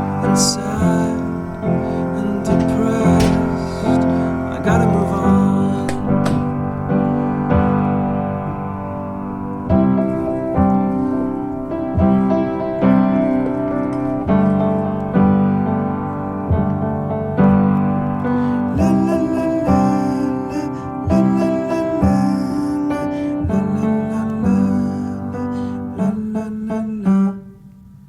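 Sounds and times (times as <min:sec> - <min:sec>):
instrumental piano music: 0:00.0 - 0:28.0.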